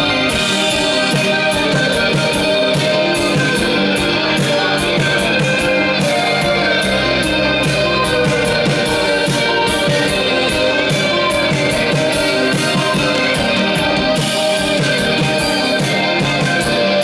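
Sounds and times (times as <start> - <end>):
live band instrumental music: 0.0 - 17.0.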